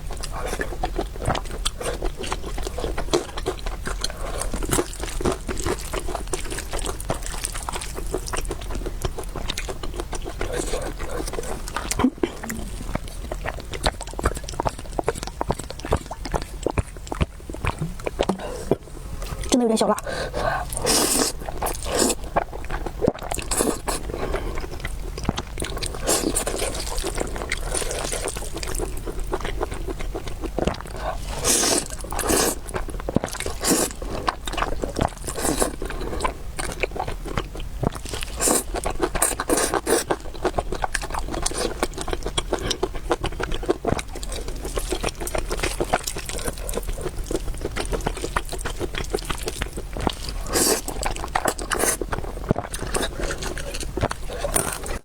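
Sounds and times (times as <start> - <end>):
wet chewing and slurping: 0.0 - 55.0.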